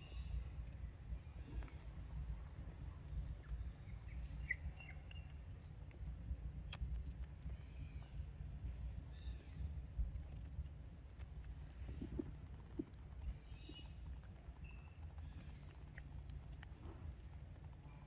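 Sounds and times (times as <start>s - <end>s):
faint bird chirps: 0.0s - 5.5s, 6.7s - 8.4s, 9.0s - 10.6s, 11.8s - 18.0s.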